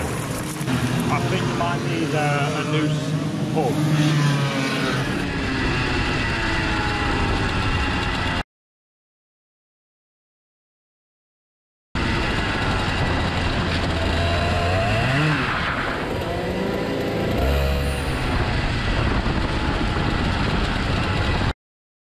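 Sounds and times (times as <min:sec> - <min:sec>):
kart engine revving: 0:00.0 - 0:08.4, 0:12.0 - 0:21.5.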